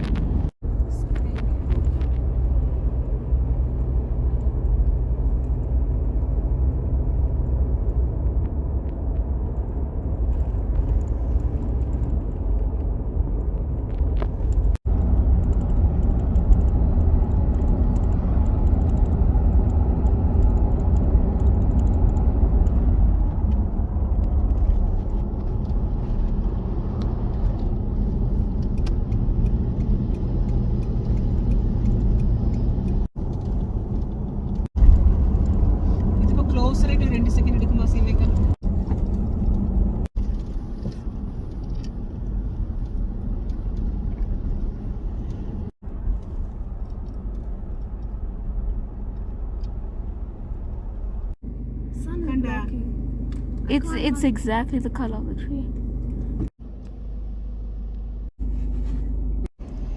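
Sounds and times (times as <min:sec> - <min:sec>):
road and engine noise in car cabin: 0:00.0 - 0:59.9.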